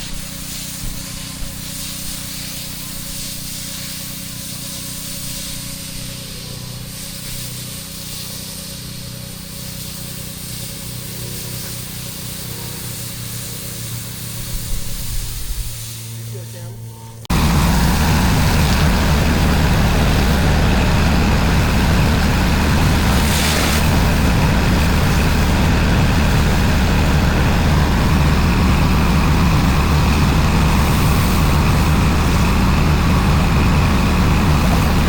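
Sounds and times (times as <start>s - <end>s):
pressure washer engine drone: 0.0s - 35.0s
pressure washer hiss: 0.0s - 35.0s.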